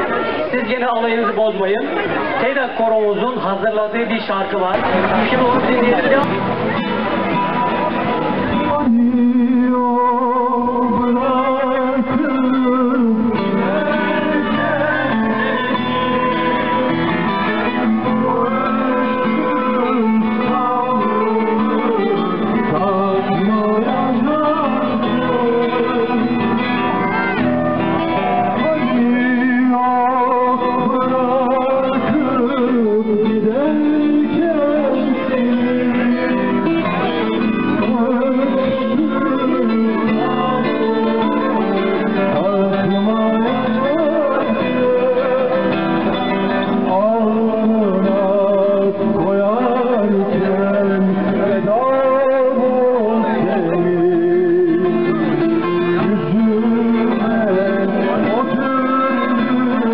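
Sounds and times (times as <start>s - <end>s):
acoustic guitars: 0.0s - 59.9s
plucked long-necked lutes: 0.0s - 59.9s.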